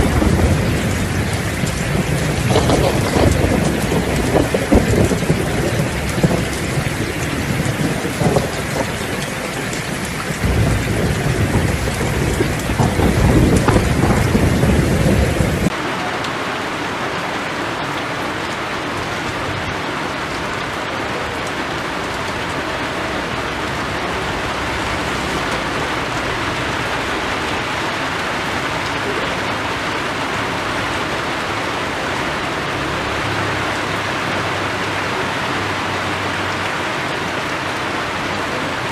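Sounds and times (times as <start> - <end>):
rolling thunder: 0.0 - 15.8, 19.3 - 36.7
heavy rain: 0.0 - 38.9.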